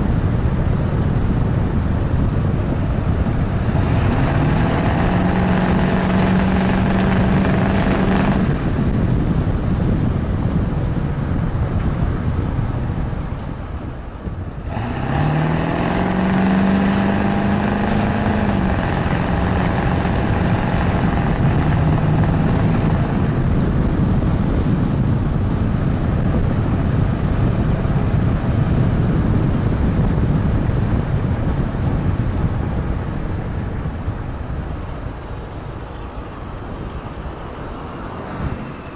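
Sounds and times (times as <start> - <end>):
diesel engine running loud: 0.0 - 38.9
road noise: 0.0 - 38.9.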